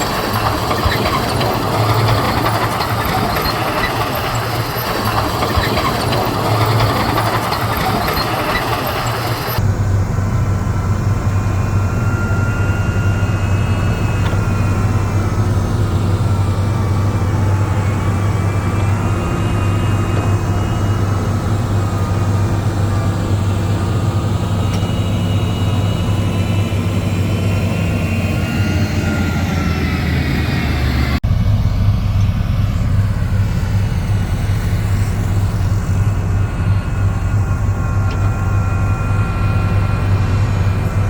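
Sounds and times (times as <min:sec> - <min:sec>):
heavy machinery diesel engine running: 0:00.0 - 0:41.0.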